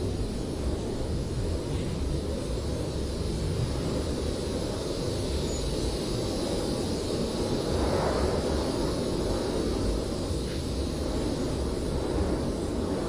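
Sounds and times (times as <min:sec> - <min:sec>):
blizzard wind rushing: 0:00.0 - 0:13.0.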